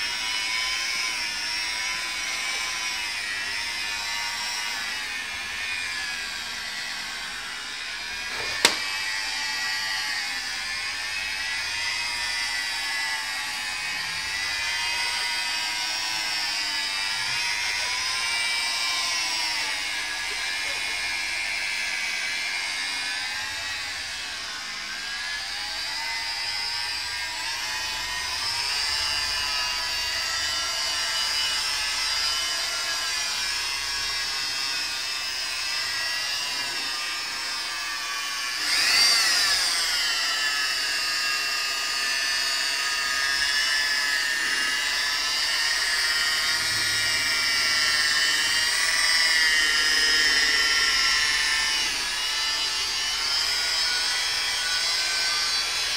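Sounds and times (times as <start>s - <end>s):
electric polisher motor whine: 0.0s - 55.9s.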